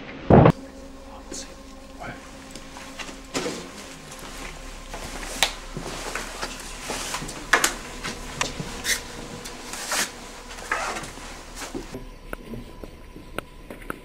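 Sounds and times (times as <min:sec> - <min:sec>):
faint steady whine: 0:00.5 - 0:14.0
jackets and backpacks rustling: 0:00.6 - 0:12.7
footsteps crunching: 0:00.6 - 0:13.0.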